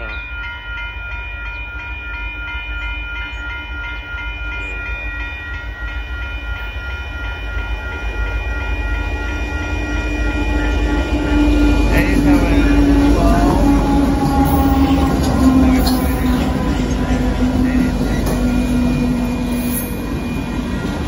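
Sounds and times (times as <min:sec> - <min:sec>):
diesel locomotive rumble: 0:00.0 - 0:21.0
railroad crossing bell ringing: 0:00.0 - 0:21.0.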